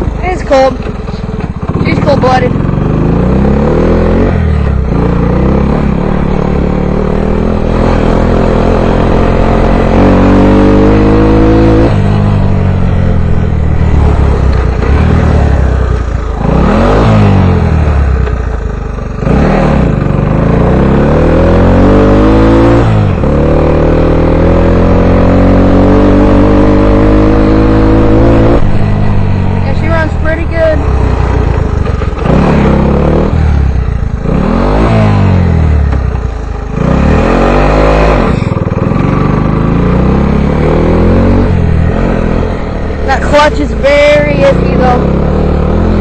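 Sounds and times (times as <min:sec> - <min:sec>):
small engine revving: 0:00.0 - 0:46.0.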